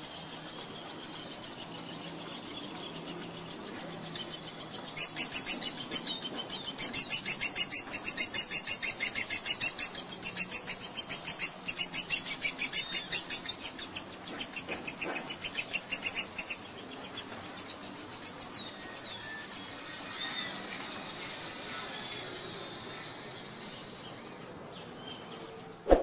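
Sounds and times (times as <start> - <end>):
bird high-pitched pulsing call: 0.0 - 26.0
other birds chirping: 0.0 - 26.0.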